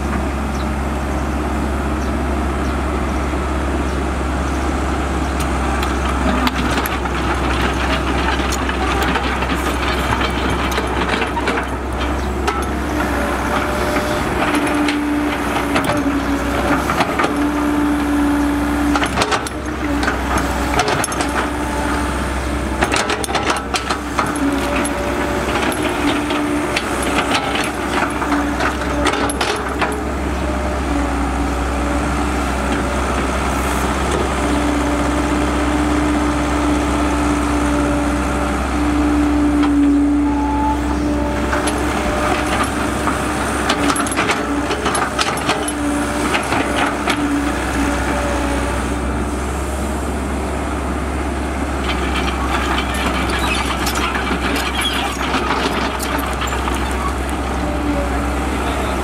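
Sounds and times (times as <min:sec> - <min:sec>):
excavator engine drone: 0:00.0 - 0:59.0.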